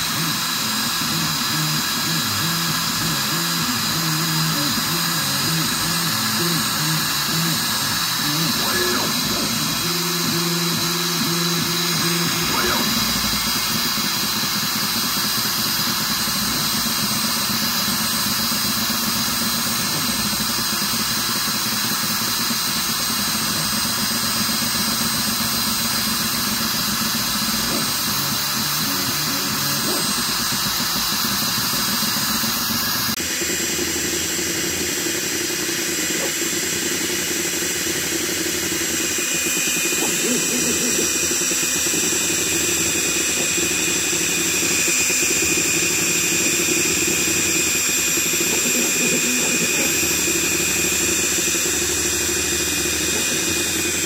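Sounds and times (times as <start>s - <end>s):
laser engraver whir and hiss: 0.0s - 54.0s.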